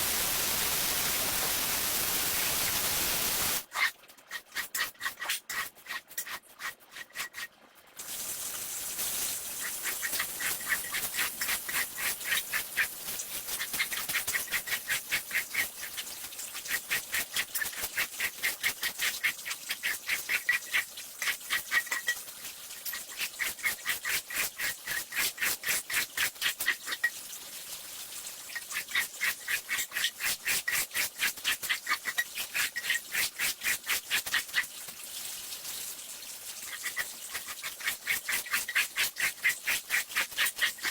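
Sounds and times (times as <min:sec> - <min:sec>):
cleaning tool scraping wet rug: 0:00.0 - 0:07.5, 0:09.6 - 0:16.0, 0:16.6 - 0:22.2, 0:22.8 - 0:27.1, 0:28.6 - 0:34.7, 0:36.7 - 0:40.9.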